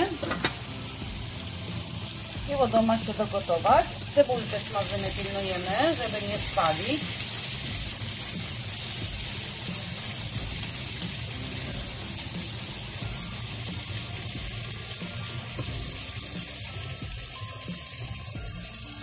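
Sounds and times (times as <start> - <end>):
food sizzling in oil: 0.0 - 19.0
onions being stirred: 0.0 - 19.0.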